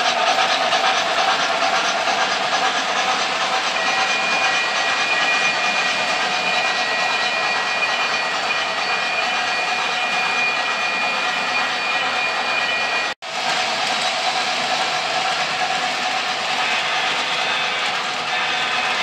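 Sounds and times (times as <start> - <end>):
model trains rumbling with whine: 0.0 - 19.0.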